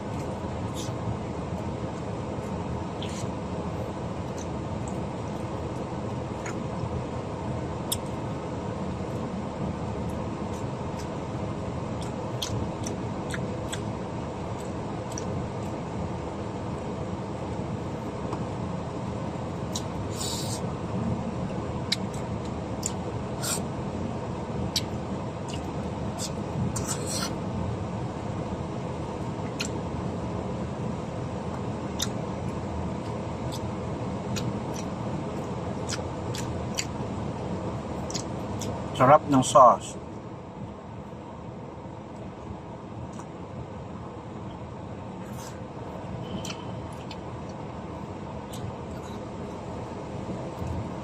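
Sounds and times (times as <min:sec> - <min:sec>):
low rumble of van cabin: 0:00.0 - 0:51.0.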